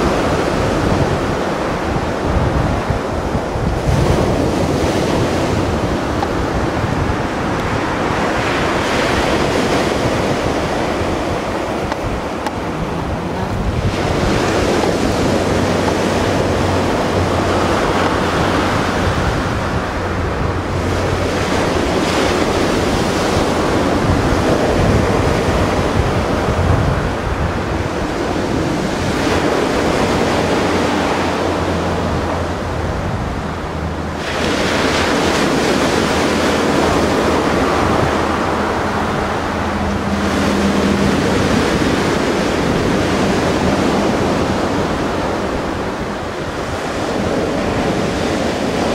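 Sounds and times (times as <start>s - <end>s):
sea waves washing: 0.0s - 48.9s
wind rumbling on microphone: 0.0s - 48.9s.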